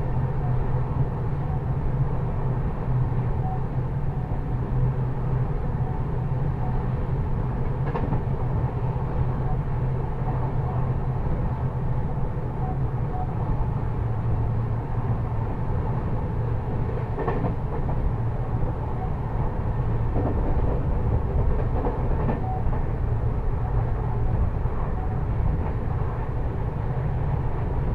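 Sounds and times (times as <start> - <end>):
train rumble: 0.0 - 27.9.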